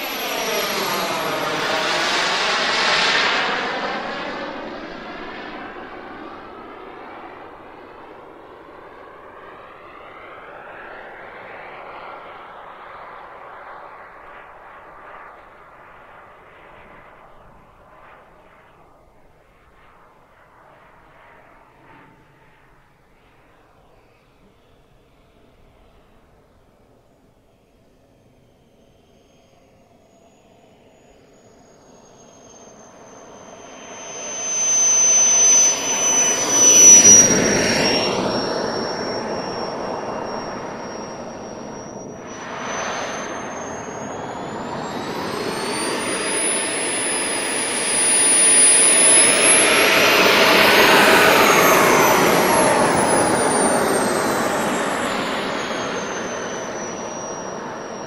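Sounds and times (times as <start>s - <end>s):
model jet turbine whine: 0.0s - 58.0s.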